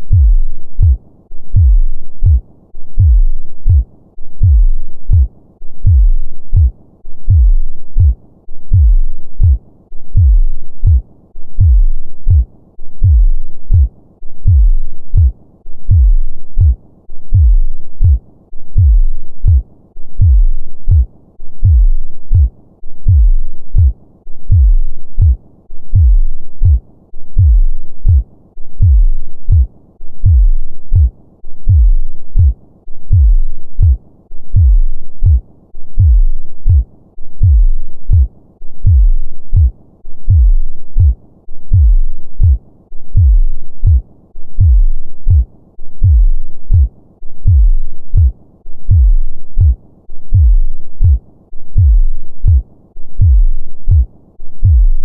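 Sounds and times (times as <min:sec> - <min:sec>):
heartbeat: 0:00.0 - 0:55.0.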